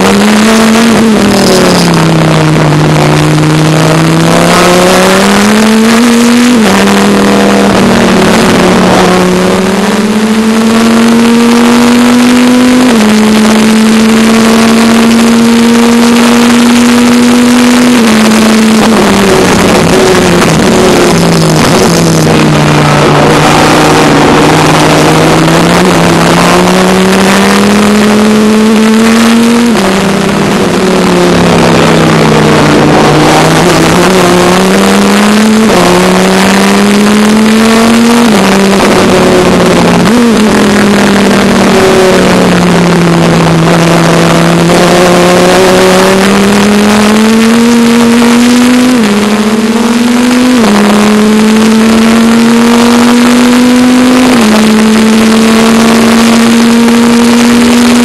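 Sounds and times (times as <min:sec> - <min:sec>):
race car engine revving: 0:00.0 - 0:58.0
wind and road noise: 0:00.0 - 0:58.0.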